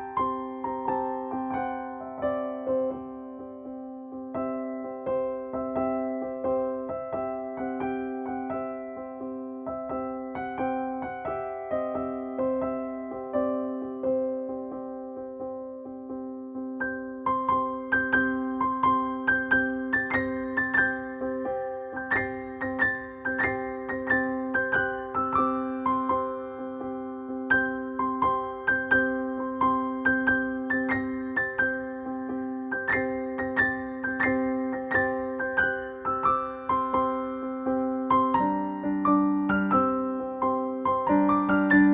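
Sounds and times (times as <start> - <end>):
gentle electric piano music: 0.0 - 41.9.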